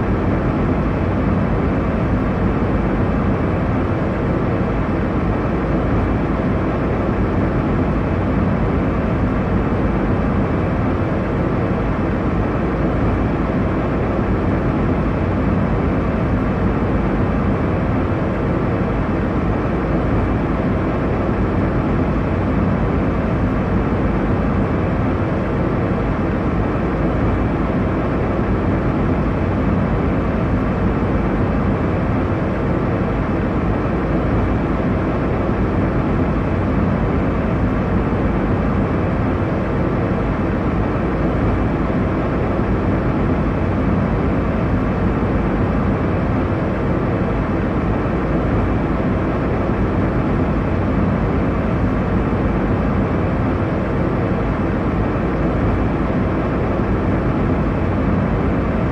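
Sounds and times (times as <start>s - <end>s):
airliner cabin engine rush: 0.0s - 58.9s.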